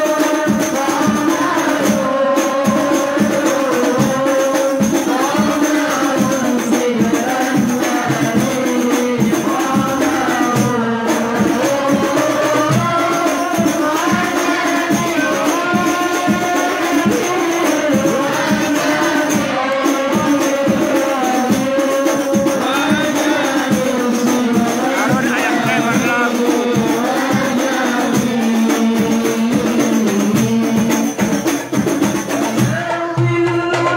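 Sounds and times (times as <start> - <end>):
frame drums beating: 0.0 - 33.9
person singing into a microphone: 0.0 - 33.9.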